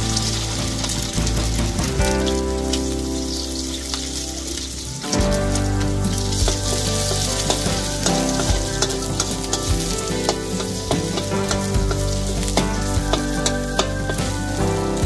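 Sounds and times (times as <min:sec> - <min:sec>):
music: 0:00.0 - 0:15.0
eggs sizzling in a wok: 0:02.4 - 0:15.0.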